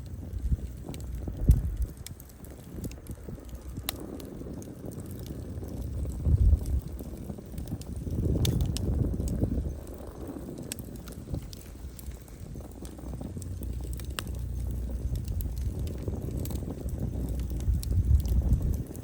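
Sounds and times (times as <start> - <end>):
low rumble: 0.0 - 19.0
wood fire crackling: 0.0 - 19.0.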